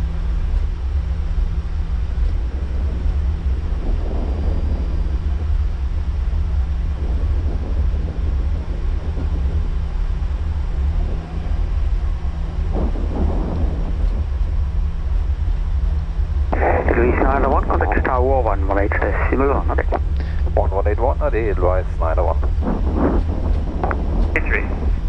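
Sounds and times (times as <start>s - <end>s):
aircraft cockpit low rumble: 0.0s - 25.0s
constant hum: 0.0s - 25.0s.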